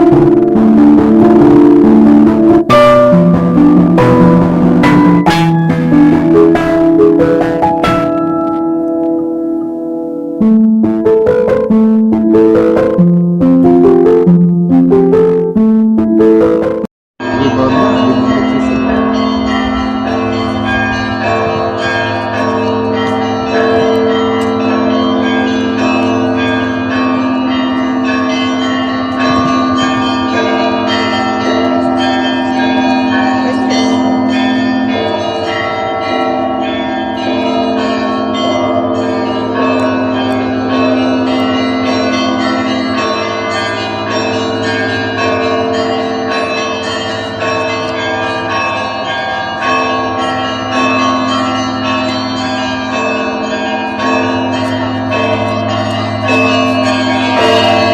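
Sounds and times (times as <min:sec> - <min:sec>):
bells ringing in a peal: 0:00.0 - 0:57.9
deep bell humming: 0:00.0 - 0:57.9.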